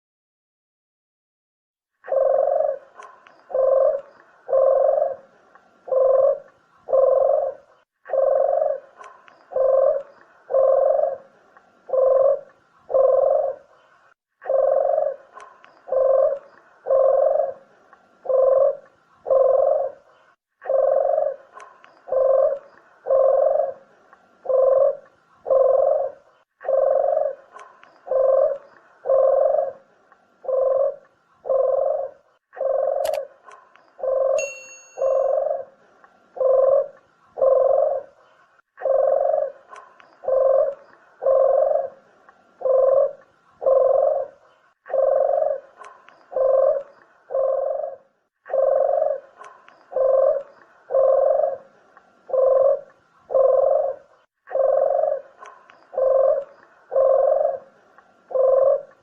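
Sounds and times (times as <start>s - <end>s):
dove cooing: 2.0s - 59.0s.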